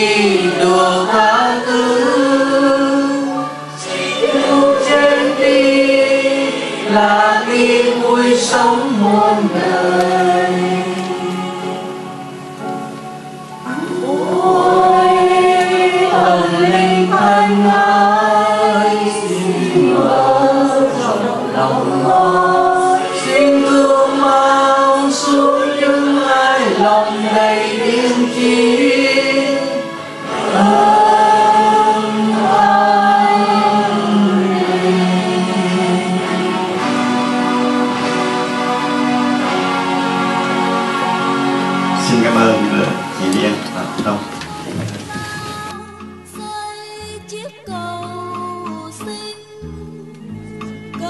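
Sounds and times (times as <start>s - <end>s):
choir singing a slow hymn: 0.0s - 45.8s.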